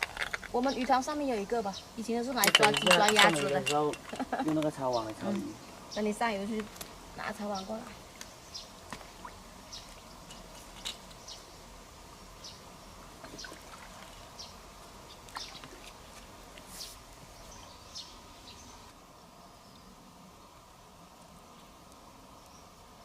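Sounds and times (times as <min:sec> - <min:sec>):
low steady background noise: 0:00.0 - 0:23.0.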